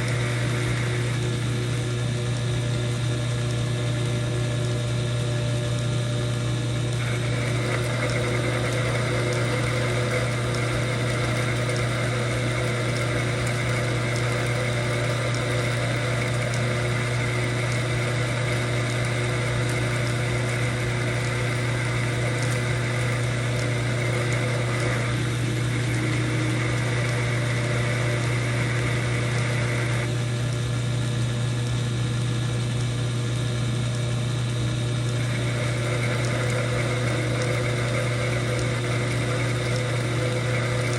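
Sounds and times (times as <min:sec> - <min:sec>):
metal lathe motor humming: 0:00.0 - 0:40.9.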